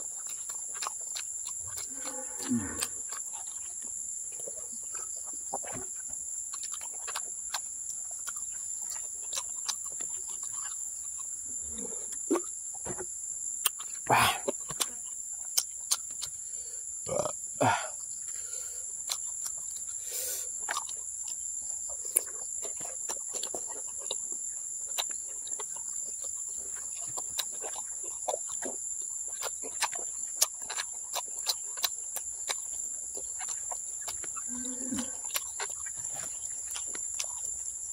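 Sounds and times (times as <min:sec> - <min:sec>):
chewing and lip-smacking: 0:00.0 - 0:17.3, 0:17.9 - 0:37.9
insects chirring: 0:00.0 - 0:37.9.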